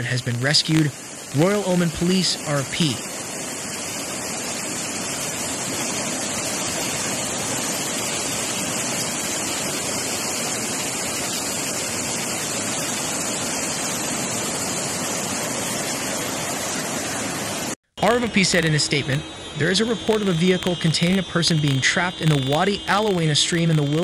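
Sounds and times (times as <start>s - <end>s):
floodwater rushing over road: 0.0s - 24.0s.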